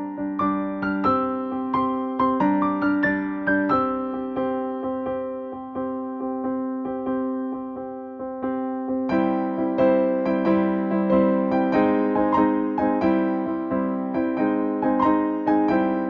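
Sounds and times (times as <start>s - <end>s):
electric piano repeated notes: 0.0s - 16.0s.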